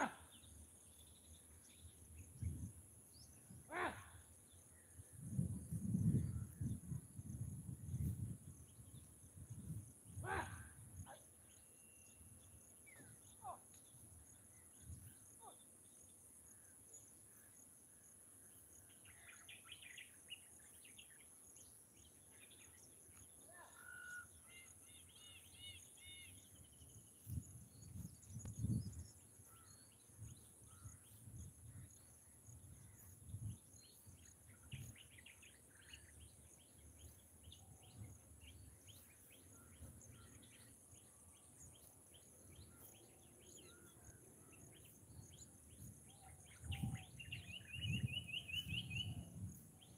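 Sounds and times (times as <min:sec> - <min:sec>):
bird chirps: 0:07.9 - 0:17.6, 0:18.4 - 0:49.9.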